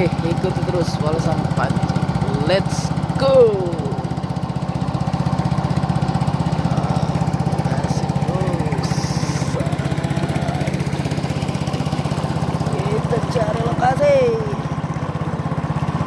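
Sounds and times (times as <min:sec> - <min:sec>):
small boat engine putter: 0:00.0 - 0:16.0.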